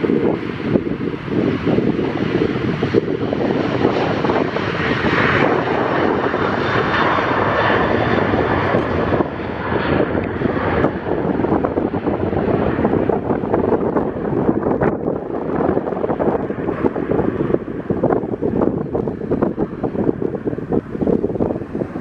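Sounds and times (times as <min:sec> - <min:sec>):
airliner engines passing: 0:00.0 - 0:22.0
wind rumbling on microphone: 0:00.0 - 0:22.0.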